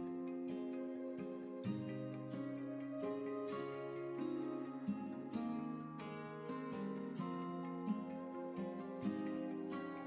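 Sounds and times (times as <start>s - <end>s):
soft plucked guitar chords: 0.0s - 10.0s.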